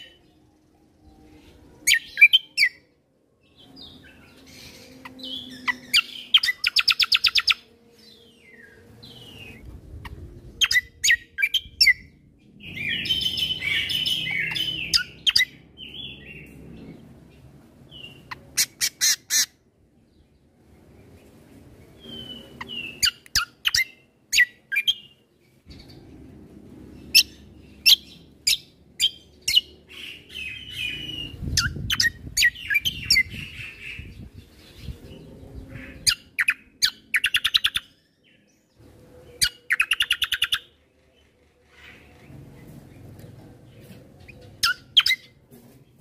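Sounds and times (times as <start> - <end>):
songbird singing: 0.0 - 46.0.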